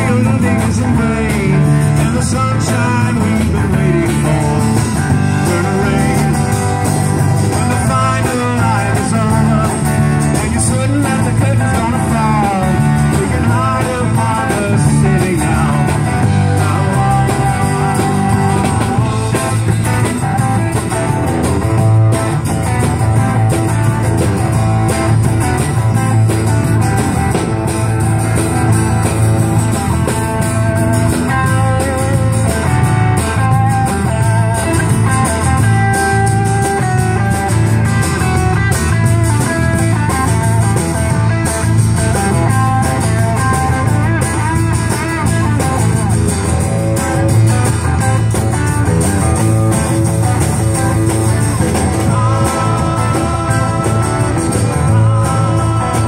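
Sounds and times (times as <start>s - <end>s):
acoustic guitar: 0.0s - 56.0s
drums: 0.0s - 56.0s
electric bass: 0.0s - 56.0s
electric guitar: 0.0s - 56.0s.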